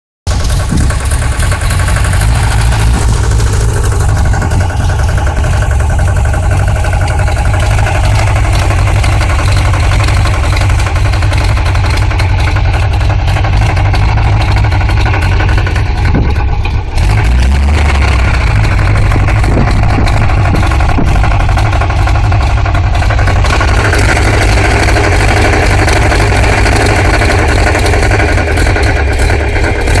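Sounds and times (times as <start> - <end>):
loud low engine running: 0.3 - 30.0.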